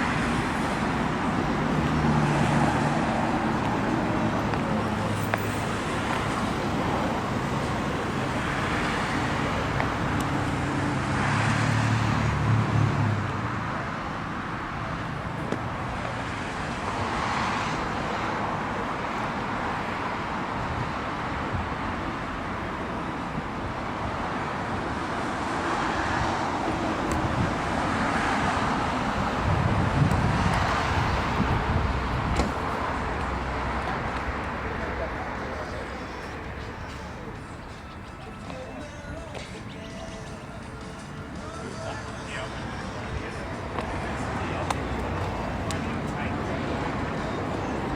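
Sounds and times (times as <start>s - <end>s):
vehicles passing: 0.0s - 47.9s.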